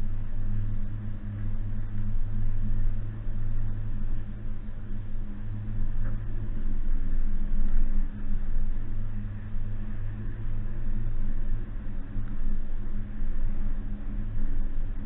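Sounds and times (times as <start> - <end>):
car engine droning while driving: 0.0 - 15.0.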